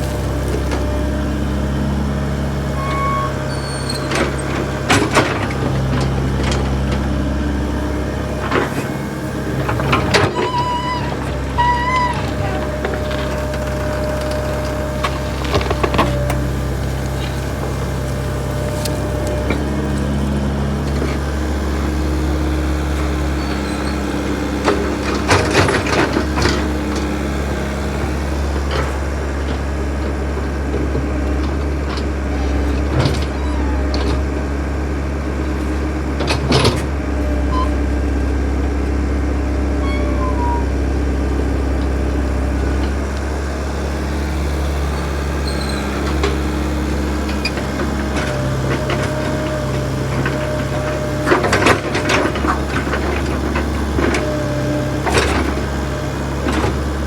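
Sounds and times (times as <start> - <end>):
backhoe engine running: 0.0 - 57.0.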